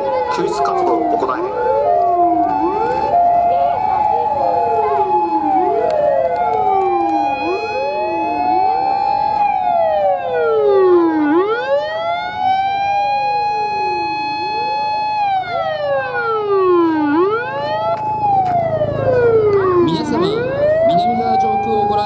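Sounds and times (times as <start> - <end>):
fire-engine sirens wailing: 0.0 - 22.0
low engine rumble: 0.0 - 22.0.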